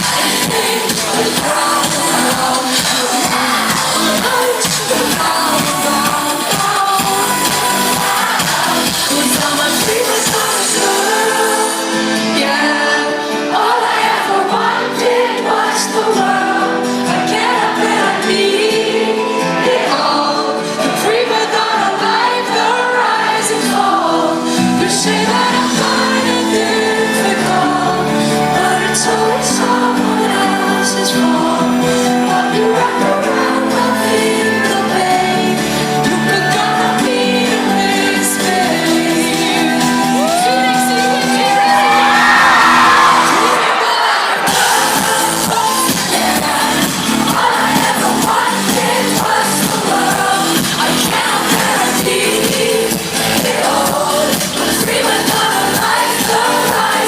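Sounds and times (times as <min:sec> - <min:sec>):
woman singing: 0:00.0 - 0:57.0.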